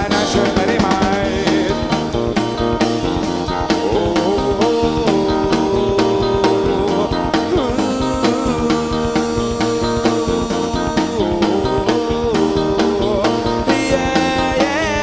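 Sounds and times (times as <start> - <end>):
drum kit beat: 0.0 - 15.0
electric guitar: 0.0 - 15.0.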